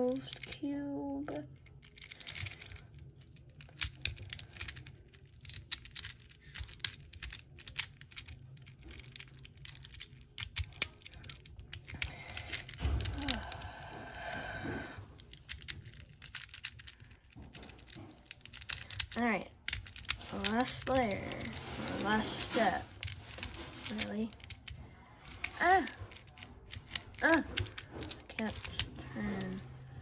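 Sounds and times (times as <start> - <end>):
puzzle cube clicking and rattling: 0.0 - 0.8, 1.4 - 30.0.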